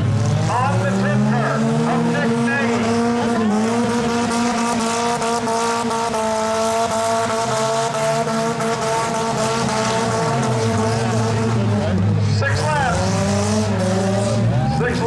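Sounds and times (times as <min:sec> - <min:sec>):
car engines revving high: 0:00.0 - 0:15.0.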